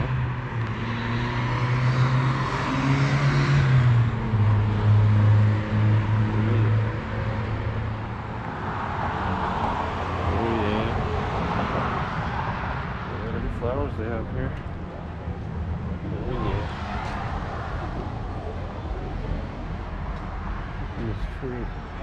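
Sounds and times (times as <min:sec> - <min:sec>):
road traffic noise: 0:00.0 - 0:22.0
vehicle engine humming: 0:04.0 - 0:22.0.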